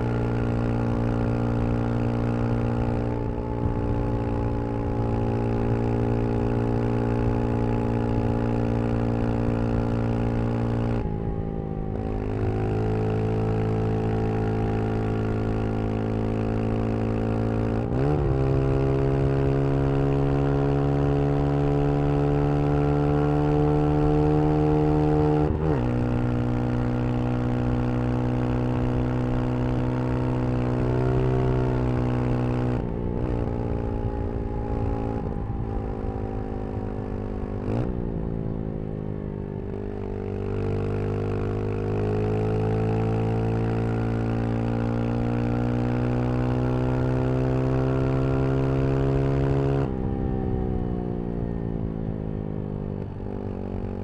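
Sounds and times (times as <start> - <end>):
motorcycle engine revving: 0.0 - 50.8.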